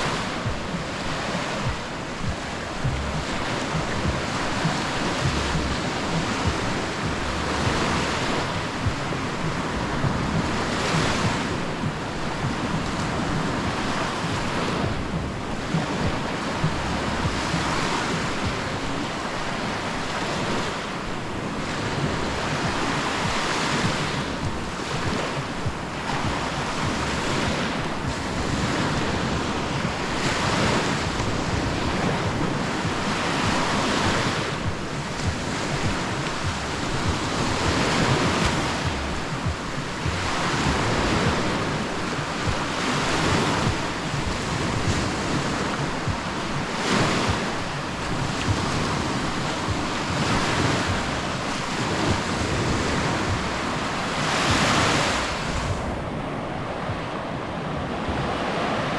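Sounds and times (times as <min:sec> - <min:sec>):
small sea waves breaking: 0:00.0 - 0:58.9
wind rumbling on microphone: 0:00.0 - 0:58.9.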